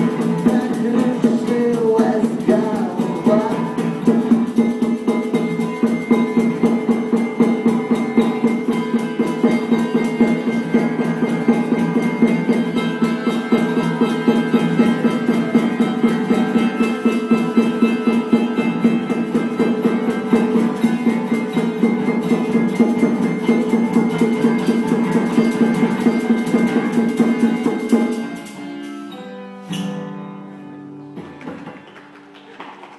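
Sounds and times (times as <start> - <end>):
bongos: 0.0 - 30.1
acoustic guitar strumming: 0.0 - 32.0.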